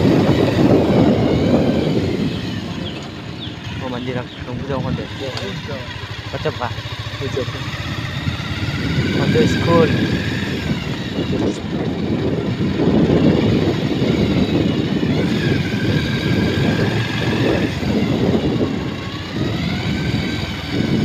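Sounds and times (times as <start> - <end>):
vehicle engine running: 0.0 - 21.0
wind rumble on microphone: 0.0 - 21.0.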